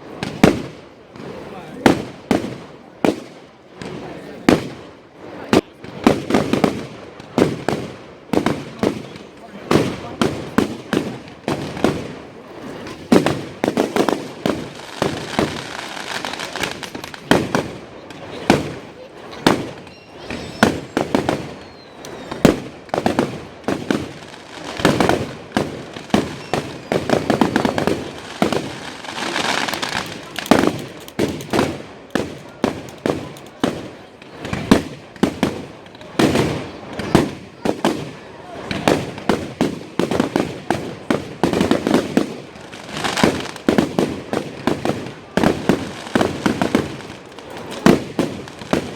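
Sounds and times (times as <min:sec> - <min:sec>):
fireworks bursting: 0:00.0 - 0:48.9
fireworks crackling: 0:00.0 - 0:48.9.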